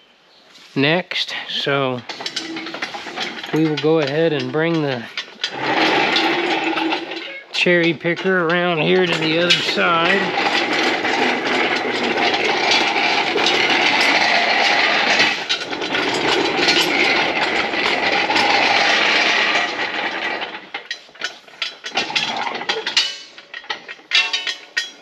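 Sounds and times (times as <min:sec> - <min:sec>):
shop crane rolling and rattling: 0:00.6 - 0:25.0
clicks and knocks: 0:02.0 - 0:25.0.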